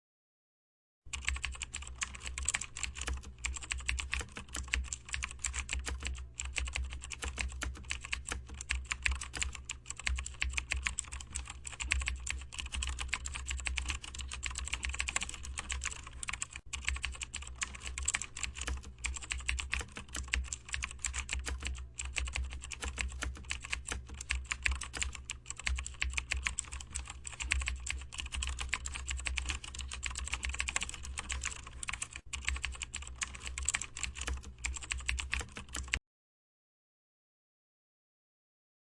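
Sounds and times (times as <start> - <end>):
fast typing on keyboard: 1.1 - 36.0.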